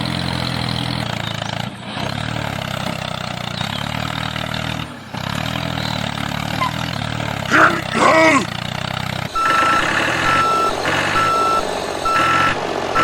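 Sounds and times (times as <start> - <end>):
small motor running: 0.0 - 13.0.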